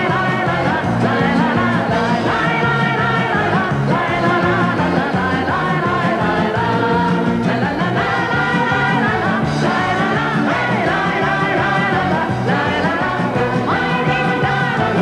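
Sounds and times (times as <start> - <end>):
pop band with steady beat: 0.0 - 15.0
woman singing: 0.0 - 15.0.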